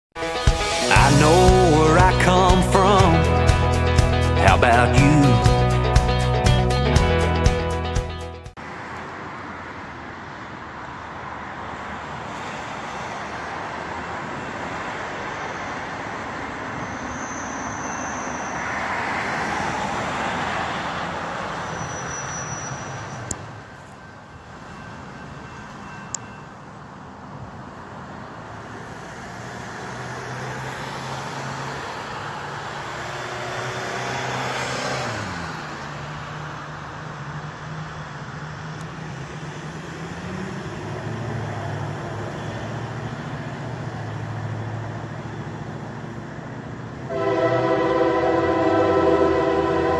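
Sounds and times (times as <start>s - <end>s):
cars passing by: 0.2s - 49.9s.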